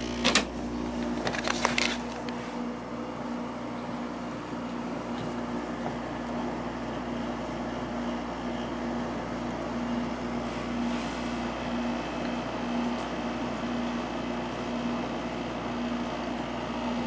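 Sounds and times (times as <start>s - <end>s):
air conditioner compressor hum: 0.0s - 17.0s
blower fan rushing: 0.0s - 17.0s.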